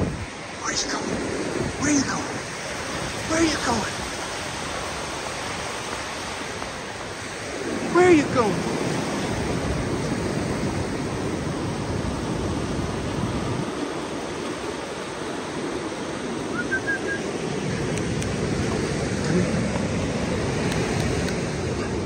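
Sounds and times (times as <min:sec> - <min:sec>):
ocean surf washing up beach: 0:00.0 - 0:22.0.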